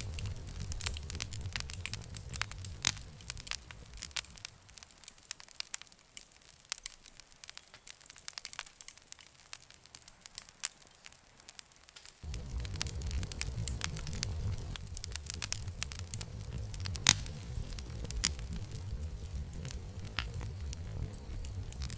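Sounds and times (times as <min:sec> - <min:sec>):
campfire crackling and popping: 0:00.0 - 0:21.9
low roar of flames: 0:00.0 - 0:21.9.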